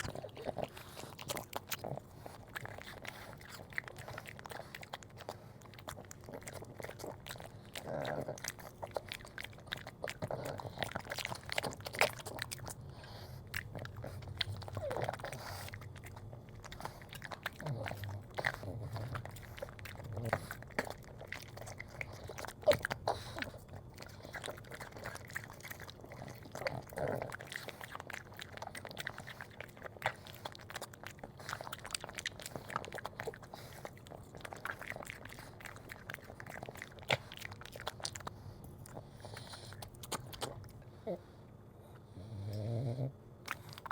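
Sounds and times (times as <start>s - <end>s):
dog chewing and crunching food: 0.0s - 41.2s, 42.2s - 43.9s.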